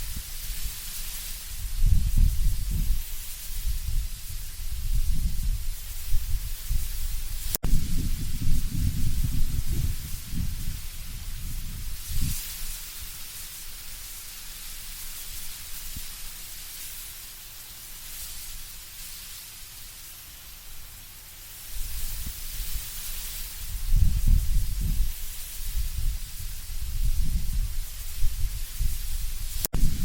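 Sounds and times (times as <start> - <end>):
low rumble of wind: 0.0 - 16.2, 21.7 - 30.0
leaves rustling in wind: 0.0 - 30.0.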